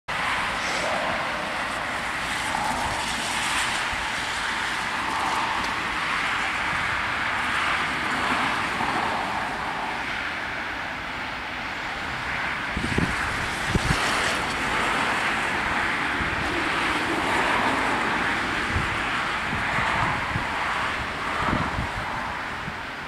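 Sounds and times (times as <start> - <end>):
road traffic rushing: 0.1 - 23.0.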